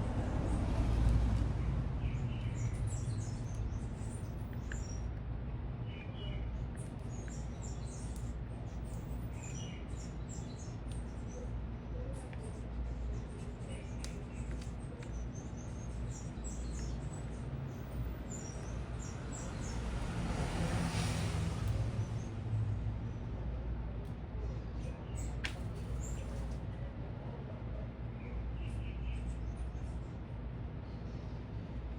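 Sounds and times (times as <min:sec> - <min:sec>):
low city hum: 0:00.0 - 0:31.9
small birds chirping: 0:00.2 - 0:22.4, 0:23.1 - 0:26.8, 0:27.9 - 0:31.9.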